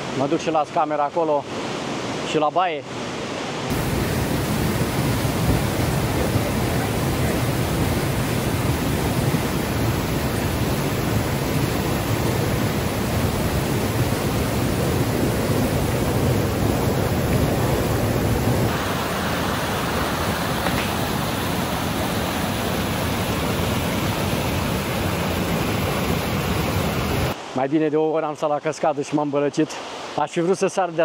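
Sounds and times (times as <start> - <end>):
waterfall rushing: 1.4 - 27.7.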